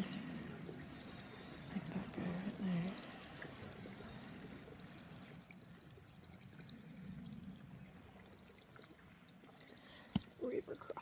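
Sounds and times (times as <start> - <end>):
faint creek trickling: 0.0 - 11.0.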